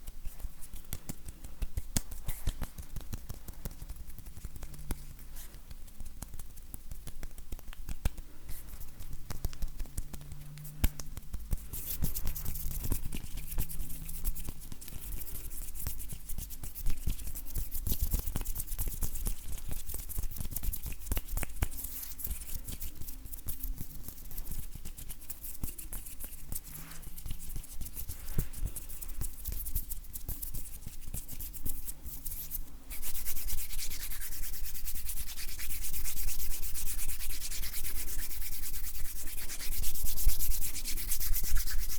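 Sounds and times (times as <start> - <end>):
hands rubbing together: 0.0 - 41.9.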